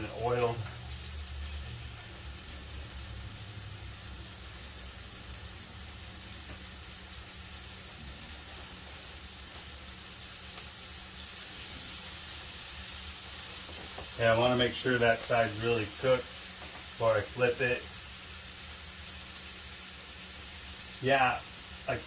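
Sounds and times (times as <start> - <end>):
low steady hum: 0.0 - 22.0
meat sizzling in a pan: 0.0 - 22.0.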